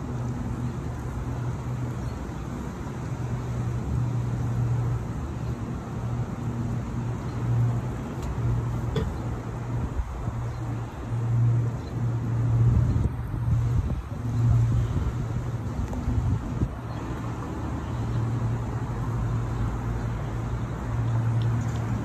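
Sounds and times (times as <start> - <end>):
street traffic engine hum: 0.0 - 22.0.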